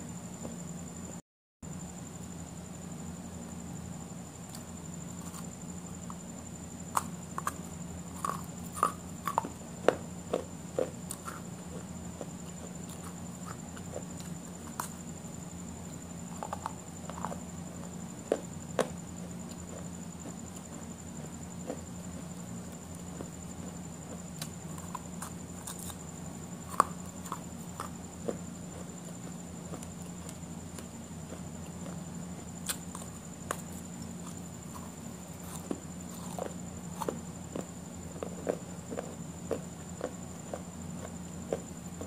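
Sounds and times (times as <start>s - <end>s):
electrical hum: 0.0s - 42.0s.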